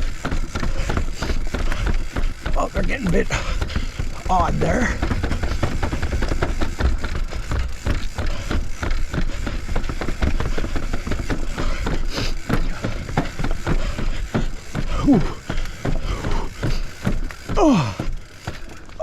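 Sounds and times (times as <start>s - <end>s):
bike tyres knocking on steps: 0.0s - 19.0s.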